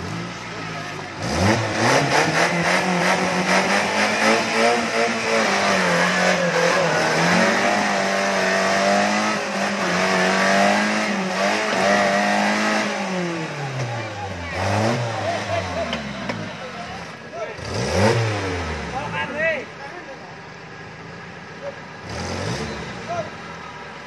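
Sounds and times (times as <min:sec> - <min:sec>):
engine revving hard: 0:01.1 - 0:19.5, 0:22.0 - 0:23.3.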